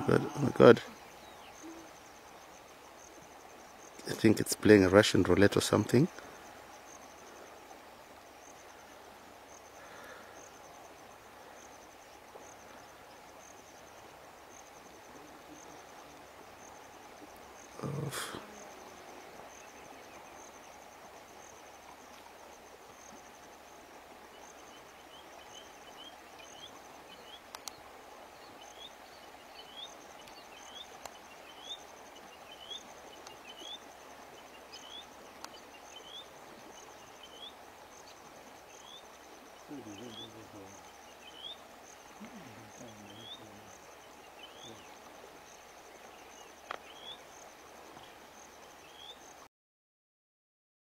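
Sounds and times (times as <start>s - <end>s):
insect trilling: 0.0s - 49.3s.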